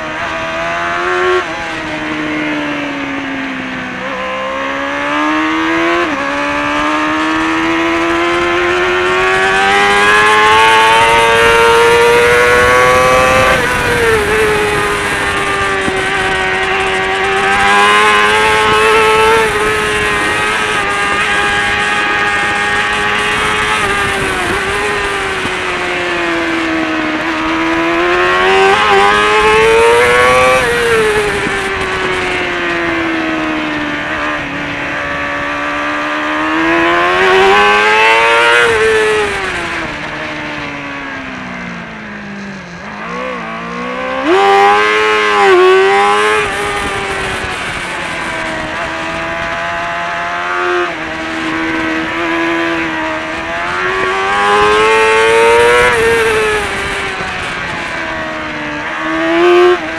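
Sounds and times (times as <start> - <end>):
motorcycle engine at racing speed: 0.0 - 59.9.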